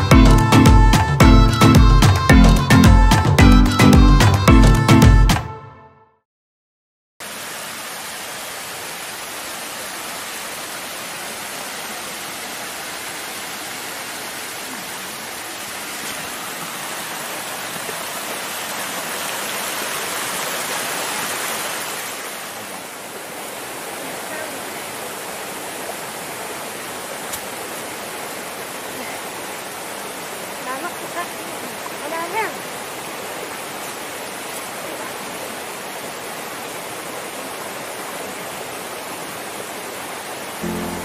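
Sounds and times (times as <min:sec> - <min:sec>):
water rushing over rocks: 0:07.2 - 0:41.0.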